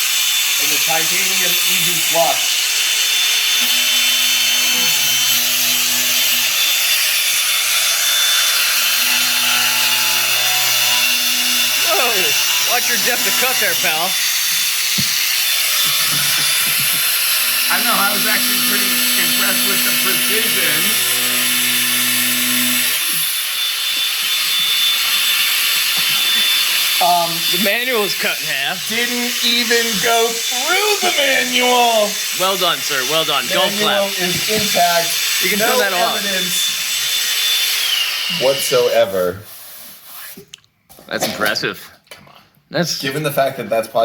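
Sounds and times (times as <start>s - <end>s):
angle grinder cutting cardboard: 0.0s - 40.5s.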